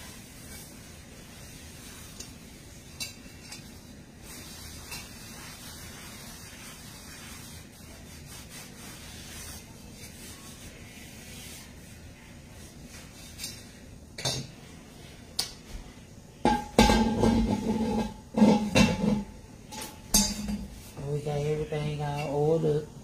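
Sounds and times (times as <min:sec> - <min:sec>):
cloth rubbing cast iron pot: 0:00.0 - 0:15.3, 0:16.4 - 0:22.7.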